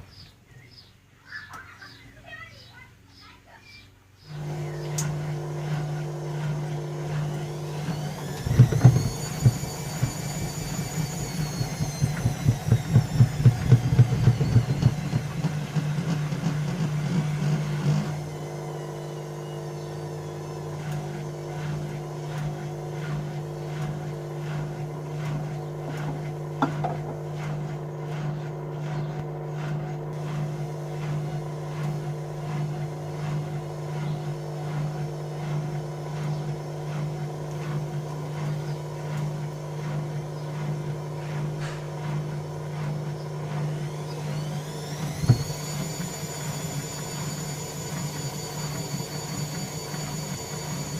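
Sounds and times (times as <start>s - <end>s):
motor whine rising in pitch: 4.2s - 50.9s
washing machine motor humming: 4.3s - 50.9s.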